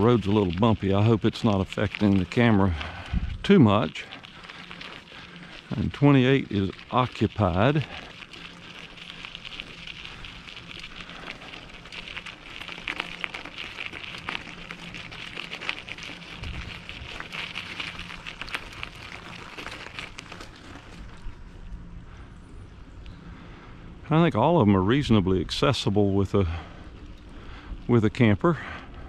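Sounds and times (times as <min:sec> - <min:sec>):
bicycle tyres rolling over gravel: 0:00.0 - 0:29.0.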